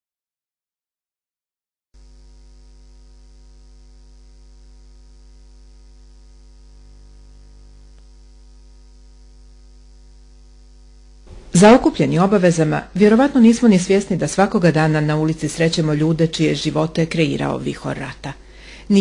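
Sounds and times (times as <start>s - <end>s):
electrical mains hum: 2.0s - 19.0s.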